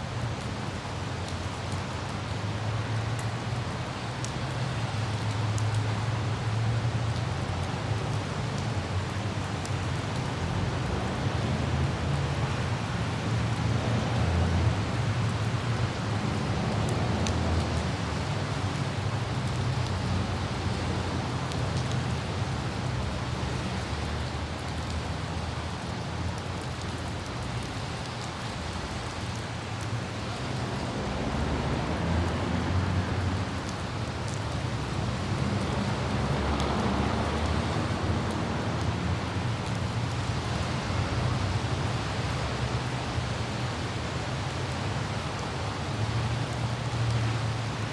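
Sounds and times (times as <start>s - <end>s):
light rain falling: 0.0s - 47.9s
road traffic rumble: 0.0s - 47.9s
wind: 0.0s - 47.9s
droplet ticks: 3.0s - 47.6s.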